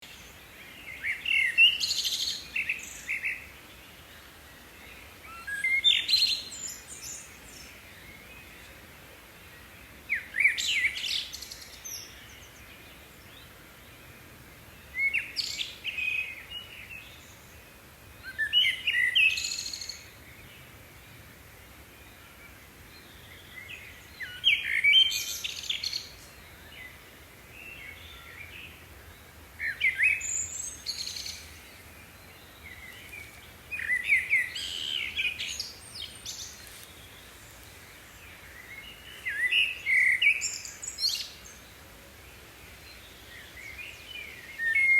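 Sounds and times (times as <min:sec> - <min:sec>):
faint outdoor hiss: 0:00.0 - 0:44.9.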